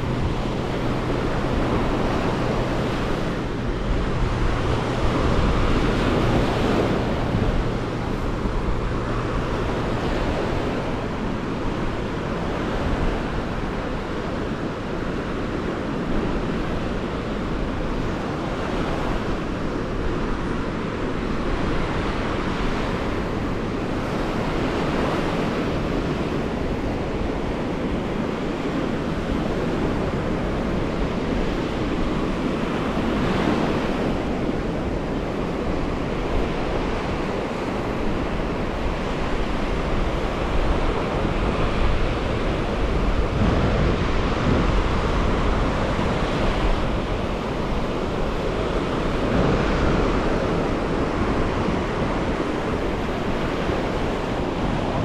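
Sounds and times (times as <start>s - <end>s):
ocean surf breaking: 0.0s - 55.0s
wind rumbling on microphone: 0.0s - 55.0s.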